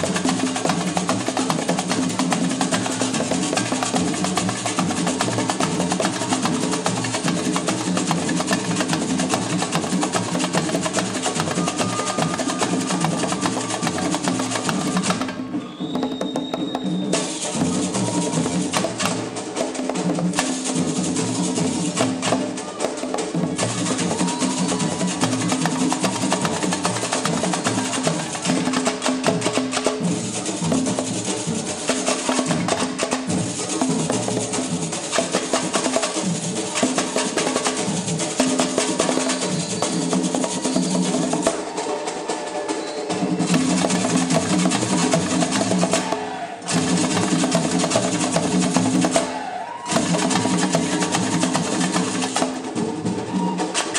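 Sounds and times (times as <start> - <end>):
samba drums: 0.0 - 53.9
wood block percussion: 0.0 - 53.9.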